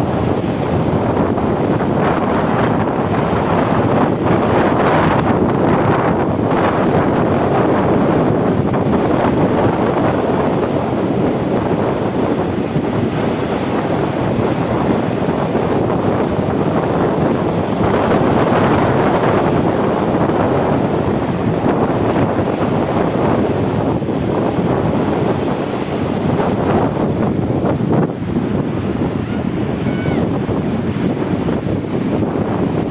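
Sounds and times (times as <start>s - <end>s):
sea waves: 0.0s - 32.9s
wind buffeting microphone: 0.0s - 32.9s.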